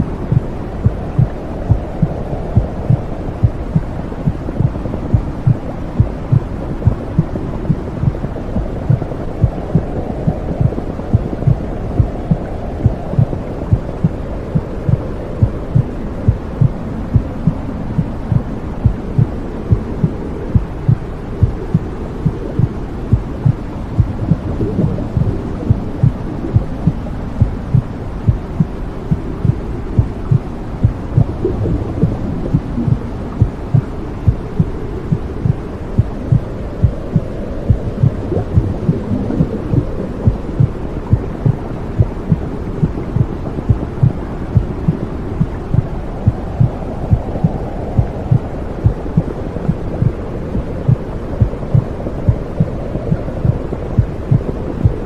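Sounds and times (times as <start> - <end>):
heartbeat thumping: 0.0 - 55.0
low muffled whooshing rumble: 0.0 - 55.0.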